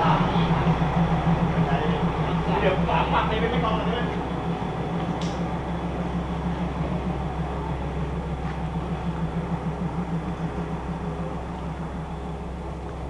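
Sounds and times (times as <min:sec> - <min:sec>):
railcar diesel engine droning: 0:00.0 - 0:13.0.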